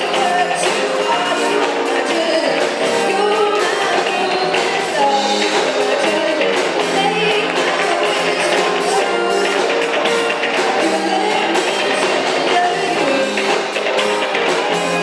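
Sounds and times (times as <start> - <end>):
live band playing pop song: 0.0 - 15.0
person singing: 0.0 - 15.0.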